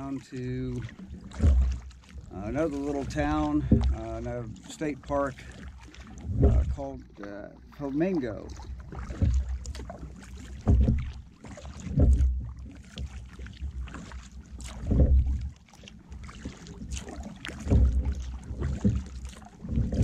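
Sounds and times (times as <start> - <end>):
paddle splashing in water: 0.0 - 20.0.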